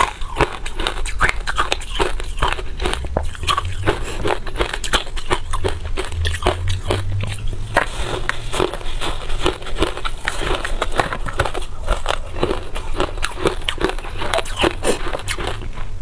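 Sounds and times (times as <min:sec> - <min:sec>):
frost being bitten and chewed: 0:00.0 - 0:16.0.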